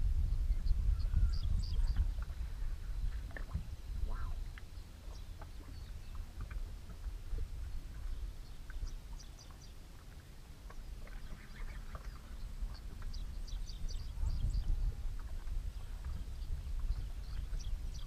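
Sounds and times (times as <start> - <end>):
wind noise on microphone: 0.0 - 10.0, 10.8 - 18.0.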